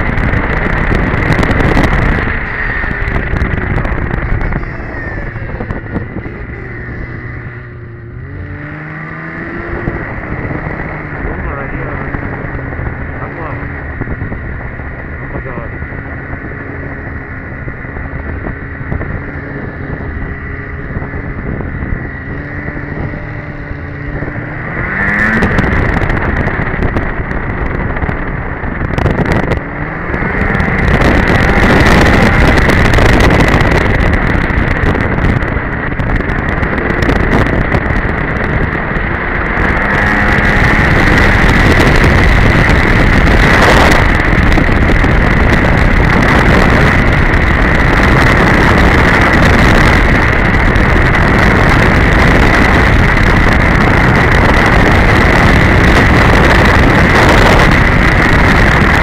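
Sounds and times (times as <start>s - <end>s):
snowmobile engine accelerating: 0.0s - 59.0s
wind rushing over microphone: 0.0s - 59.0s.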